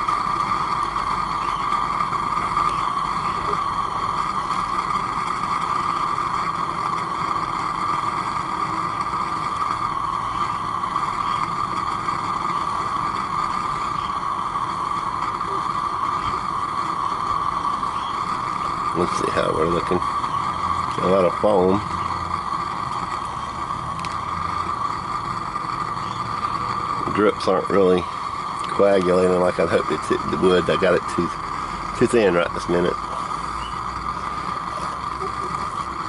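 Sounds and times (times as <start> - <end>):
propane burner rushing: 0.0 - 36.0.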